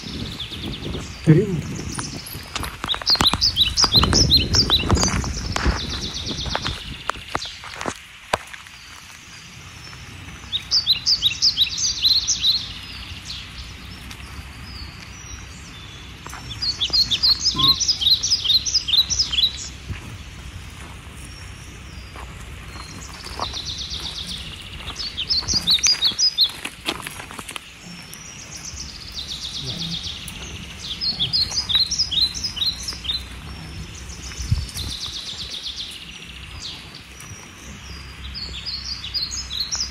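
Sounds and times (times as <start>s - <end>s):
low outdoor rumble: 0.0s - 39.9s.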